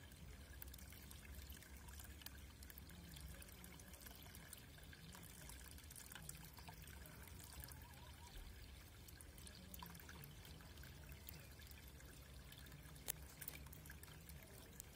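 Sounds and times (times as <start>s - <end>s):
low steady hum: 0.0s - 14.9s
water trickling: 0.0s - 14.9s.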